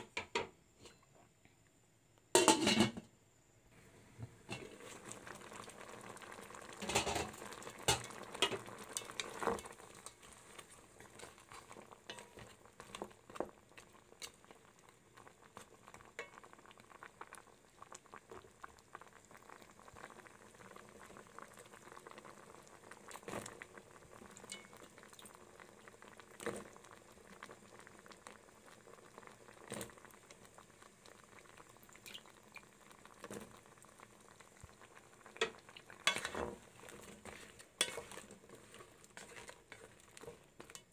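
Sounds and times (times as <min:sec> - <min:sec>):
liquid bubbling in a pot: 0:03.7 - 0:40.9.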